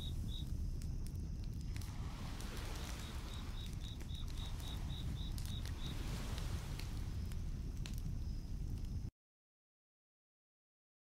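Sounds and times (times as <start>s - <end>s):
campfire rumble and crackles: 0.0s - 9.1s
cricket chirping: 0.0s - 9.1s.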